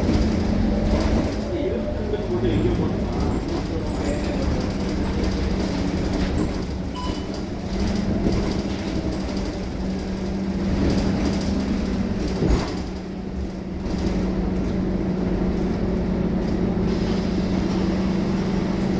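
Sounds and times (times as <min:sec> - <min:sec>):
bus engine humming: 0:00.0 - 0:18.9.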